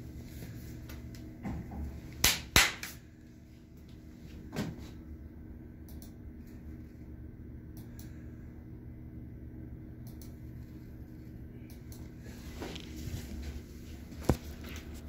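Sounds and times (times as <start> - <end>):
low equipment hum: 0.0 - 15.0.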